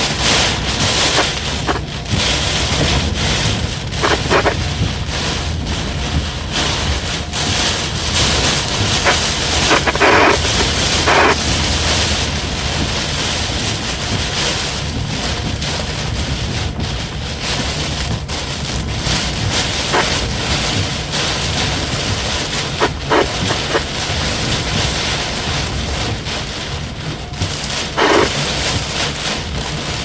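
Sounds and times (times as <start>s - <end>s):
rain: 0.0s - 30.0s
wind buffeting microphone: 0.0s - 30.0s.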